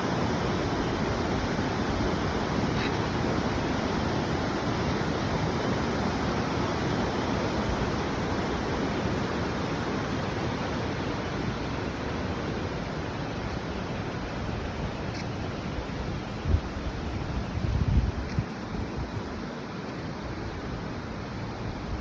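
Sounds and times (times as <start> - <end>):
river rushing: 0.0 - 17.6.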